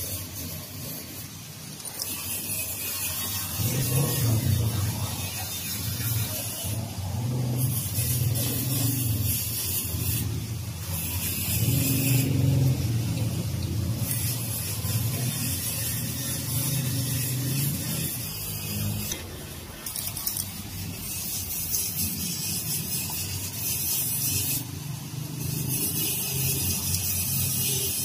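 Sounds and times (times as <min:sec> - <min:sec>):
hiss: 0:00.0 - 0:19.2, 0:19.9 - 0:28.0.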